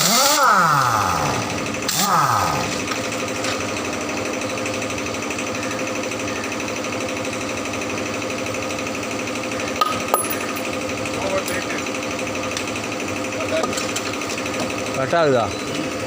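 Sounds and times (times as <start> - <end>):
machine rattling and whining: 0.0 - 16.0.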